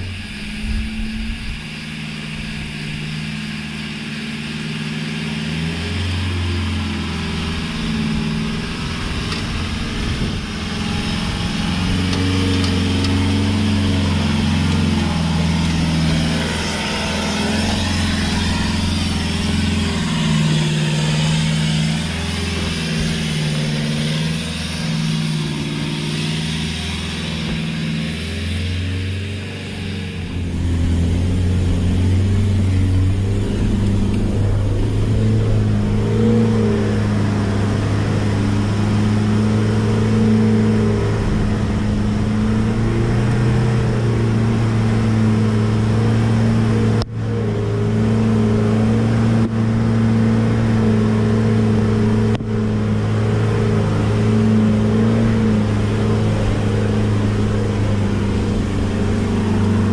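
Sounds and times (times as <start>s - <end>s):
engine pulling hard uphill: 0.0s - 59.9s.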